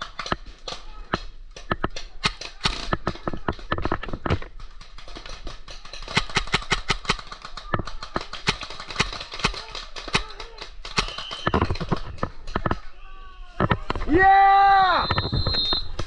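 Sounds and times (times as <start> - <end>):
paintball markers firing: 0.0 - 12.9.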